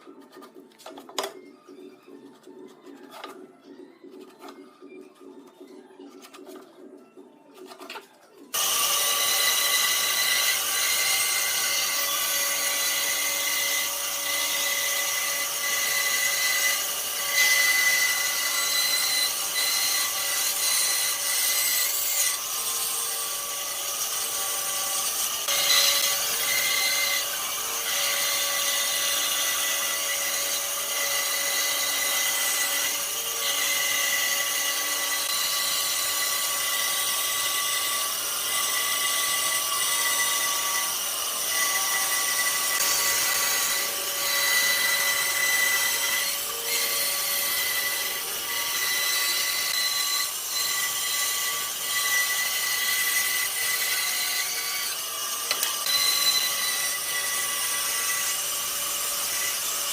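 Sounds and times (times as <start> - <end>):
power tool whining on wood: 8.5 - 59.9.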